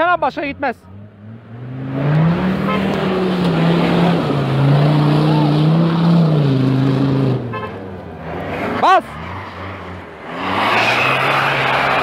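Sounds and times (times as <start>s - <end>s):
engine revving hard: 0.9s - 7.5s, 8.3s - 12.0s.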